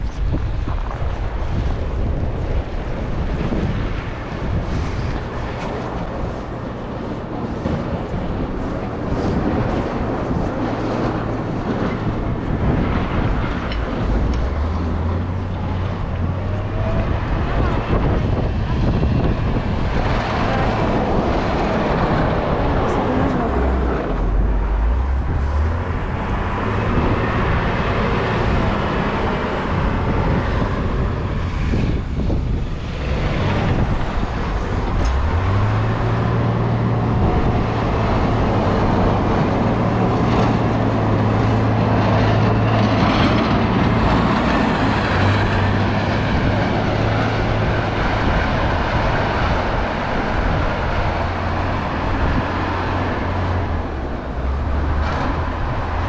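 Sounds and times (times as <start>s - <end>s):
passing vehicle traffic rumble: 0.0s - 56.0s.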